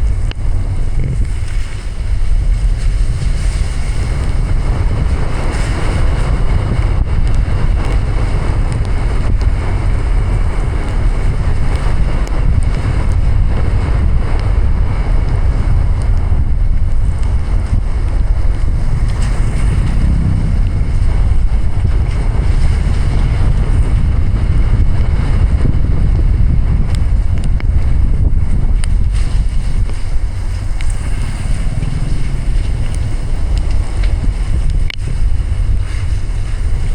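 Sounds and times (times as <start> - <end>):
heavy rain: 0.0 - 36.9
tyres on wet road: 0.0 - 36.9
wind buffeting: 0.0 - 36.9.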